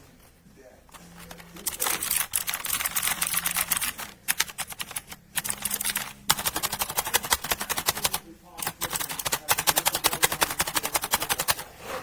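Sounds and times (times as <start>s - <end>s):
fast mechanical keyboard typing: 1.2s - 11.6s.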